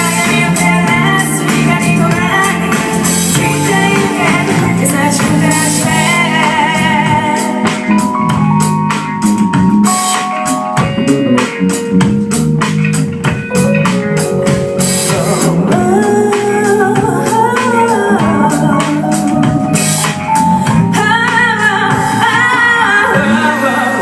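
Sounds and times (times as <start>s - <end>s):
drum kit hits: 0.0s - 23.5s
live band playing: 0.0s - 24.0s.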